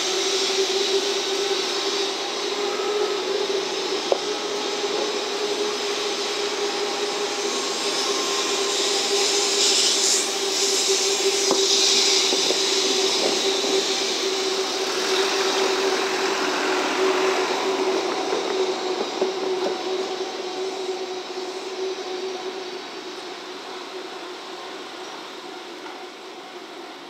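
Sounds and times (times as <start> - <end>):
train hiss: 0.0 - 27.0
train hum: 0.0 - 27.0.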